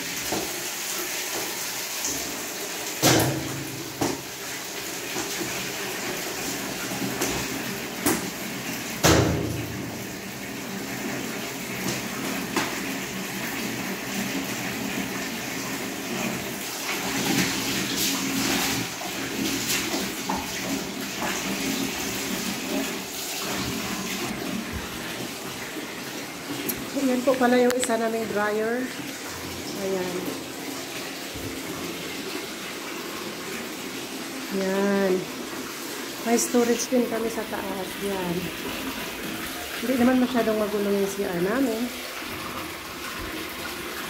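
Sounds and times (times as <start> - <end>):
water running: 0.0 - 44.0.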